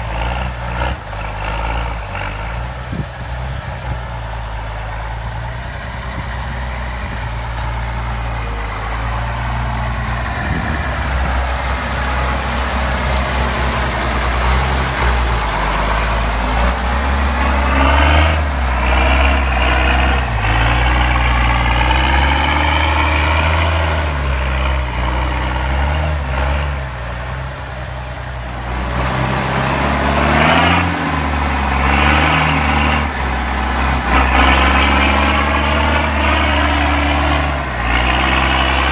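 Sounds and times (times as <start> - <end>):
tractor diesel engine working hard: 0.0 - 38.9.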